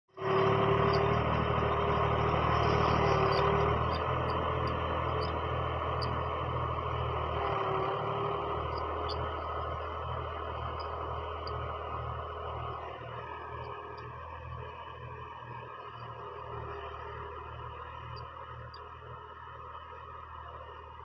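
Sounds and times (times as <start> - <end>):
tractor diesel engine running: 0.1 - 21.0.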